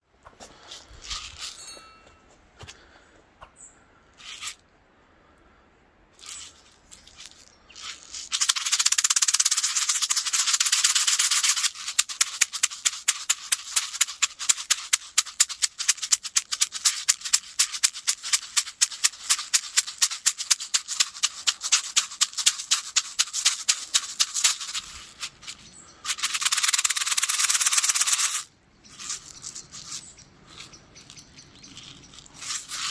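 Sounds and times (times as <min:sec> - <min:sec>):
soft rustles: 0:00.2 - 0:03.2, 0:06.2 - 0:08.9, 0:09.5 - 0:32.9
feather rattle shaking: 0:00.6 - 0:02.2, 0:06.2 - 0:32.9.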